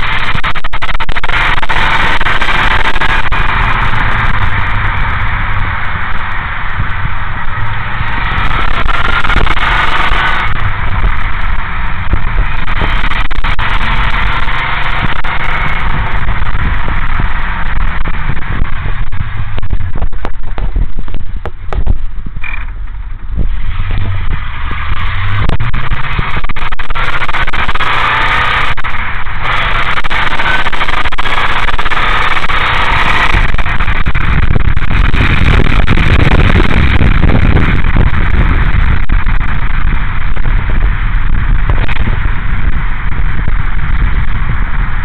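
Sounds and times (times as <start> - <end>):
car engine rumbling: 0.0 - 45.0
wind rush on microphone: 0.0 - 45.0.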